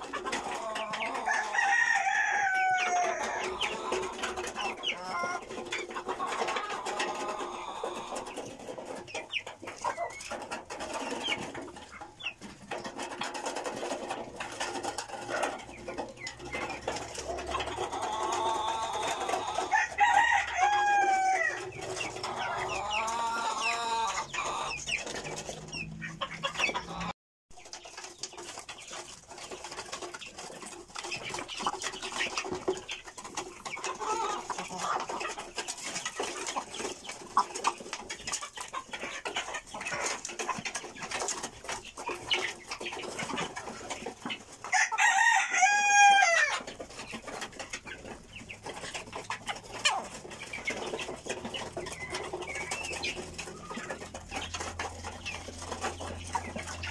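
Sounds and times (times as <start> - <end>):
pecking clicks on feed trough: 0.0 - 27.0, 27.6 - 56.9
chickens clucking and calling: 0.0 - 56.9.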